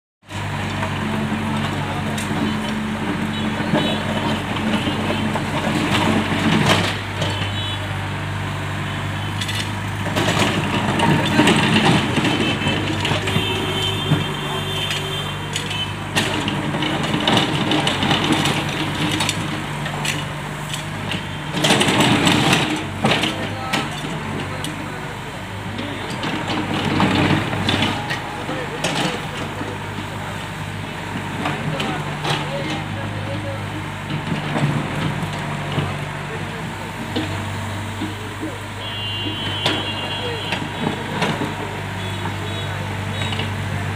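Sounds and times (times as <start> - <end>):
excavator diesel engine running: 0.2 - 43.9.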